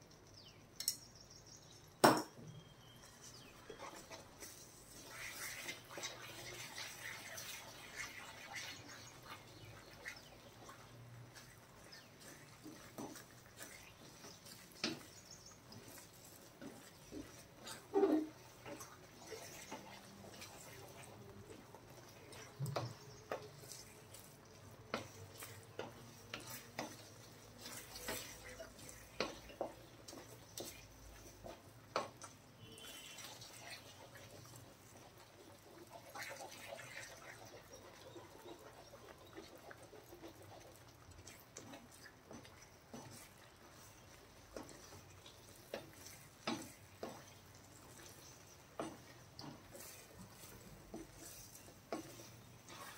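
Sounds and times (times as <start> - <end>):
spatula stirring sticky food: 2.6 - 52.9.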